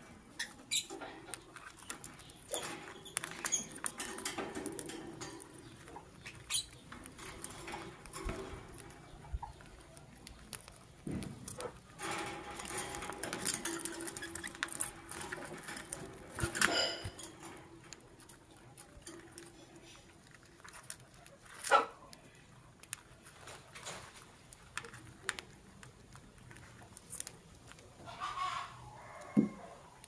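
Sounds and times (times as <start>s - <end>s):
lovebirds chirping and squawking: 0.2s - 12.0s, 12.6s - 21.8s, 26.6s - 29.8s
light clicking and pattering: 0.7s - 28.1s.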